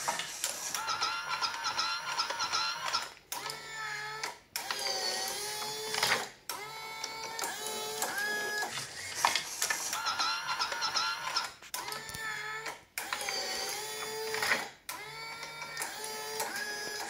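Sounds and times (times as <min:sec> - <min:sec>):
motors whining: 0:00.0 - 0:17.0.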